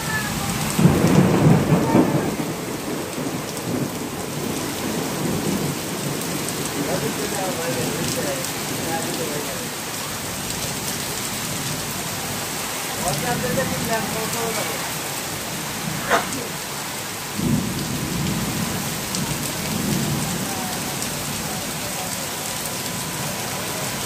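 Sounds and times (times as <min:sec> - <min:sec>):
thunder rumble: 0:00.0 - 0:09.0, 0:10.7 - 0:21.9
heavy rain pouring: 0:00.0 - 0:24.0.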